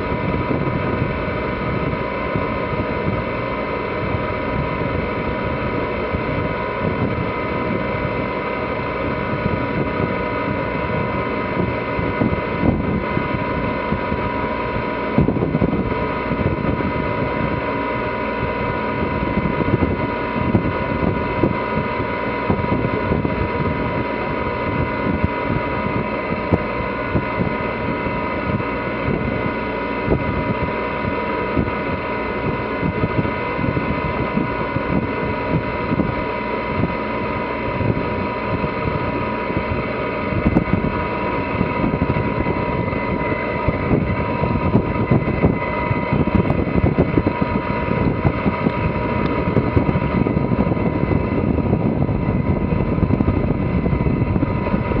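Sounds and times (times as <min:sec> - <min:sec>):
steady high whine: 0:00.0 - 0:55.0
water rushing along hull: 0:00.0 - 0:55.0
wind buffeting microphone: 0:00.0 - 0:55.0.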